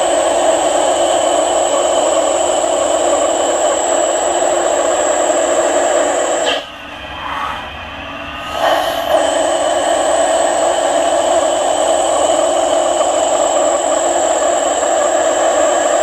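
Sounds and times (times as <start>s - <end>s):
lathe running with high whine: 0.0s - 16.0s.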